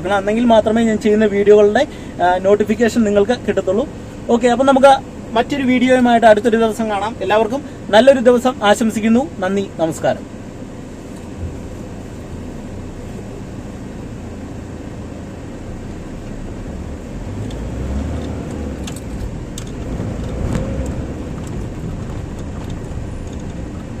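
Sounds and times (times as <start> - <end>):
car engine rumble: 0.0 - 24.0
road noise: 0.0 - 24.0.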